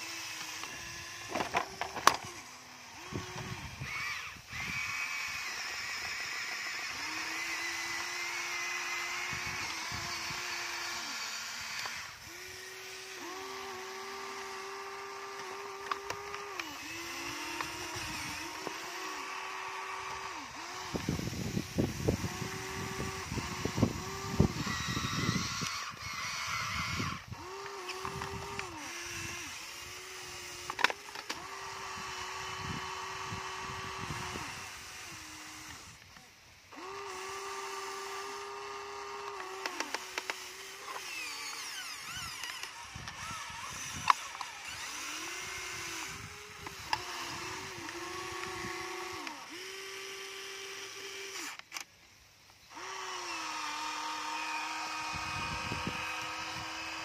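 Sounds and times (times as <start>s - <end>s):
toy electric motors whining: 0.0s - 57.0s.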